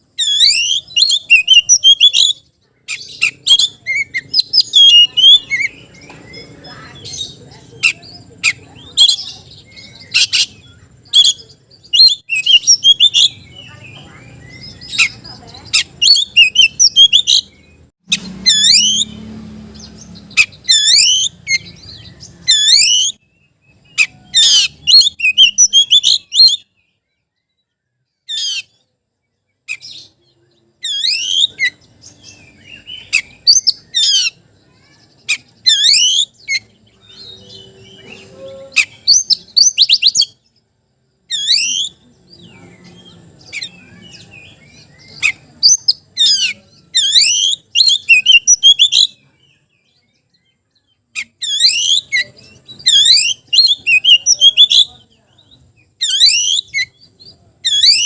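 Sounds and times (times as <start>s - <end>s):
bird singing whistled phrases: 0.1s - 19.2s, 20.0s - 28.7s, 29.6s - 40.5s, 41.3s - 58.0s.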